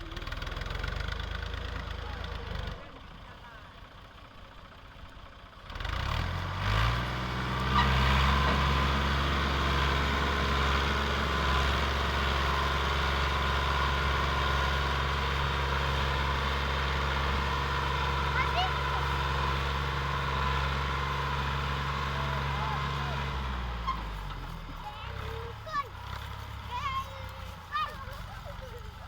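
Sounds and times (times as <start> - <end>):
tractor diesel engine revving: 0.0 - 29.0.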